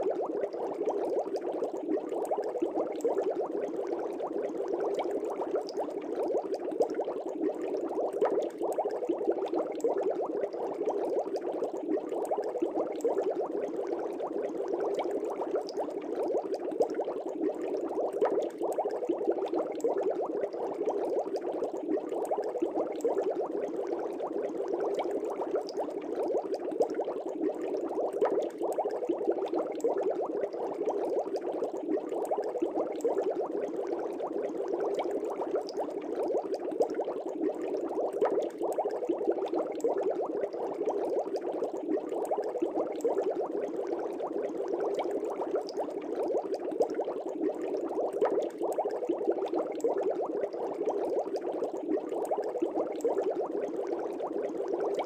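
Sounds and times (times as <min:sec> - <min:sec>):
fish tank bubbling: 0:00.0 - 0:55.0.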